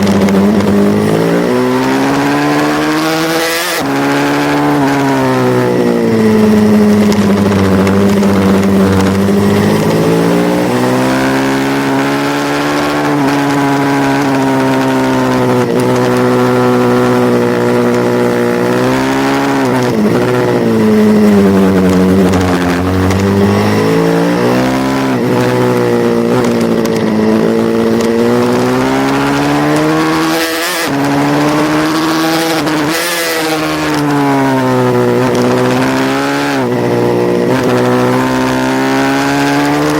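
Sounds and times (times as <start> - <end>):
small motorbike engine racing: 0.0 - 39.9.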